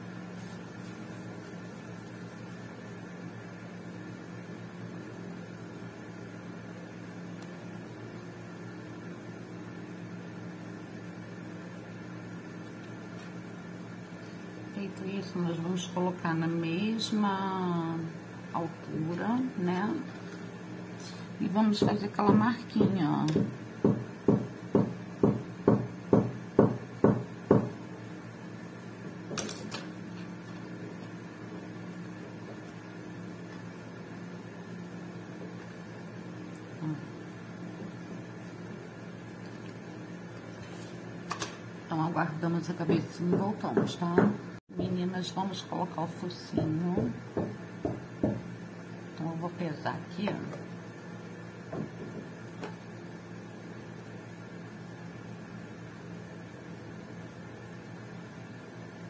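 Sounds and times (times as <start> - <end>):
electrical hum with hiss: 0.0 - 59.0.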